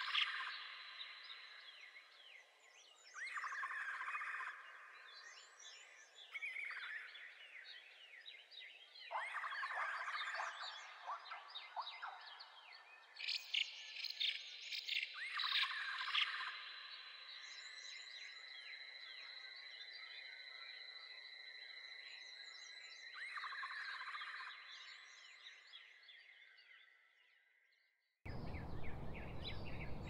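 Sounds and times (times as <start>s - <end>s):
songbirds singing: 0.0s - 27.3s, 28.3s - 30.0s.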